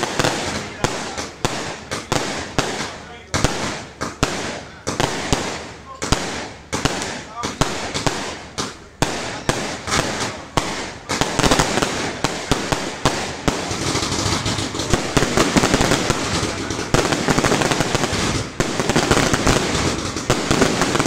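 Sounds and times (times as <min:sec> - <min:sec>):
fireworks bangs and crackle: 0:00.0 - 0:21.0.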